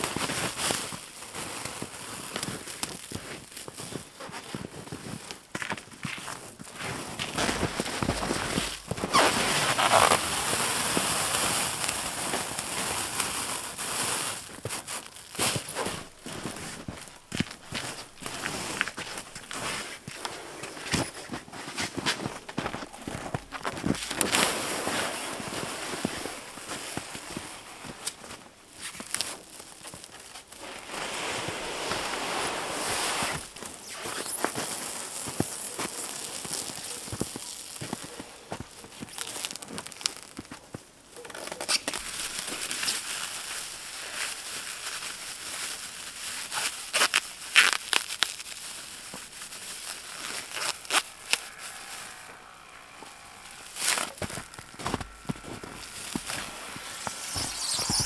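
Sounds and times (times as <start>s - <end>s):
plastic stretch film crinkling: 0.0s - 58.0s.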